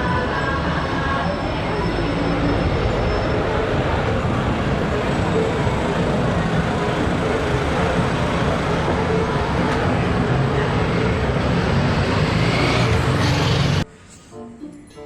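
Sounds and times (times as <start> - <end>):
traffic rumble: 0.0 - 13.9.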